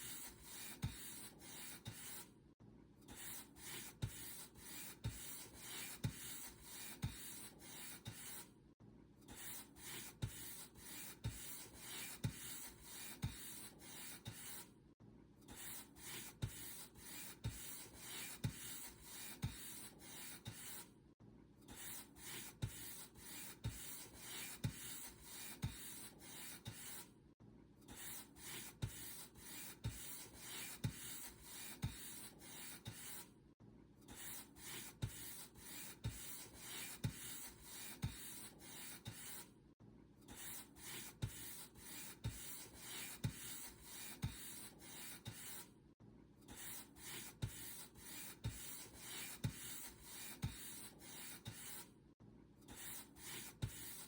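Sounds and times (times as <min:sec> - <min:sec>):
paint brush stroking a surface: 0:00.0 - 0:02.3, 0:03.2 - 0:08.5, 0:09.4 - 0:14.7, 0:15.6 - 0:20.9, 0:21.8 - 0:27.1, 0:28.0 - 0:33.3, 0:34.2 - 0:39.5, 0:40.3 - 0:45.7, 0:46.5 - 0:51.9, 0:52.7 - 0:54.0.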